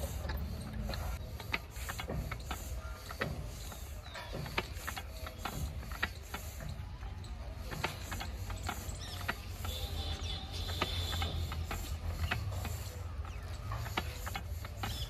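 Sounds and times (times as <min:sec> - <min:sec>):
diesel engine humming: 0:00.0 - 0:15.0
mechanical clicks and knocks: 0:00.0 - 0:15.0.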